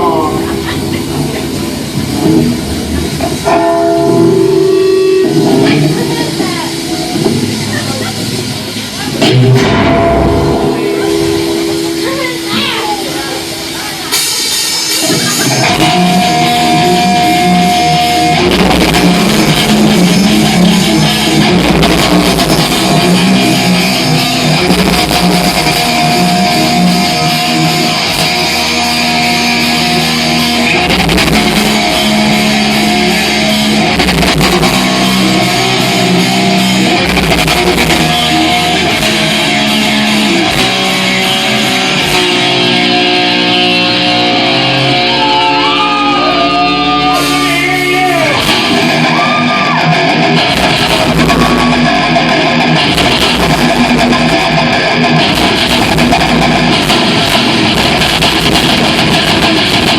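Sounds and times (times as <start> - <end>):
heavy metal band playing live: 0.0 - 59.9.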